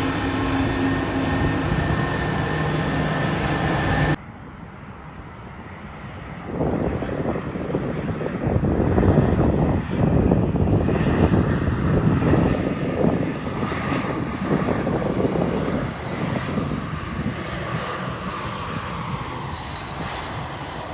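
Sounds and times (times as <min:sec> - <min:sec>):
jet airliner engines rumbling: 0:00.0 - 0:20.9.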